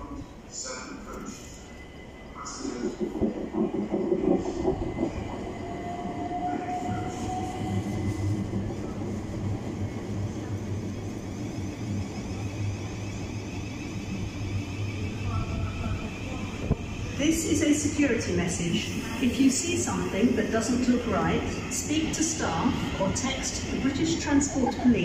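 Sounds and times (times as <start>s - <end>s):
train rolling noise: 0.0s - 25.0s.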